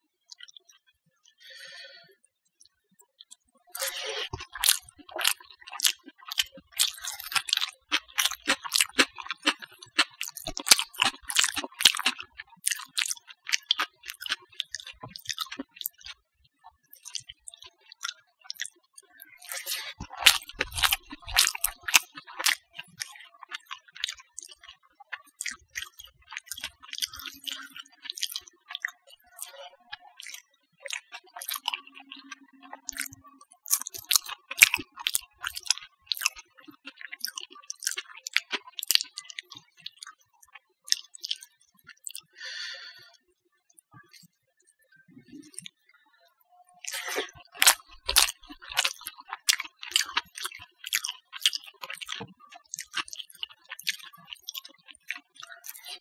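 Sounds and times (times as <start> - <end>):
wet chewing and mouth noises: 0.3 - 2.0, 2.6 - 43.1, 44.0 - 44.4, 45.2 - 45.9, 46.8 - 56.0.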